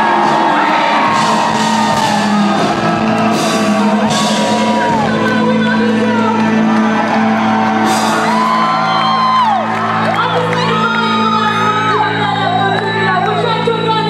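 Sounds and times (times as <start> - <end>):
crowd shouting and whooping: 0.0 - 13.1
live synth-rock band playing: 0.0 - 13.3
singer's voice: 0.0 - 14.0.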